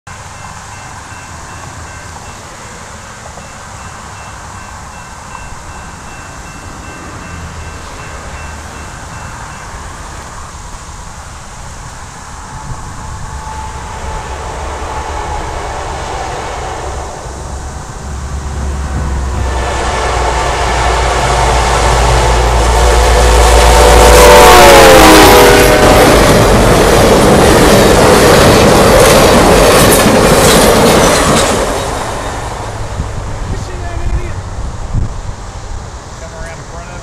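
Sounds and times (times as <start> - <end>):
distant train rumble: 0.1 - 37.0.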